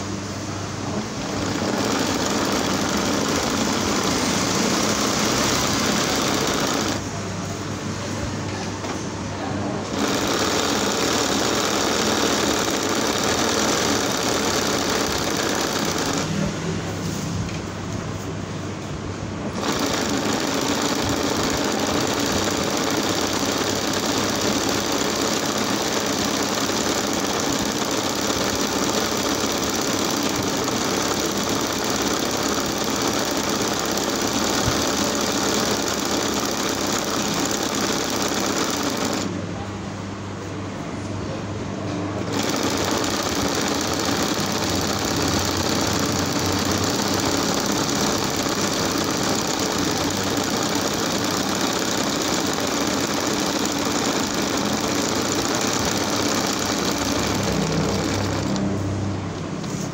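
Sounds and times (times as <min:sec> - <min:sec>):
sewing machine running: 0:00.8 - 0:07.2, 0:09.7 - 0:17.0, 0:19.4 - 0:39.4, 0:42.2 - 0:59.0.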